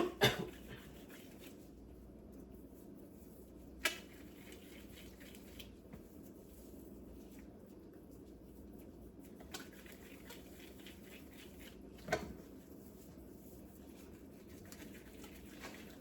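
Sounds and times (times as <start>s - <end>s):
hands shaping meatballs: 0.0s - 16.0s.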